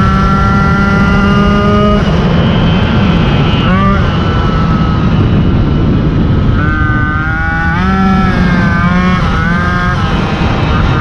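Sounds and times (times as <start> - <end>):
moped engine running: 0.0 - 11.0.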